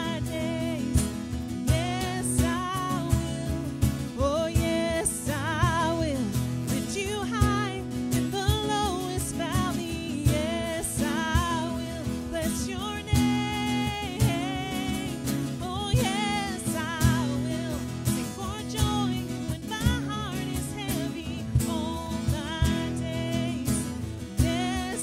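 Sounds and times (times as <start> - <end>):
cajon beat: 0.0 - 25.0
strummed acoustic guitars: 0.0 - 25.0
woman singing lead: 0.0 - 25.0.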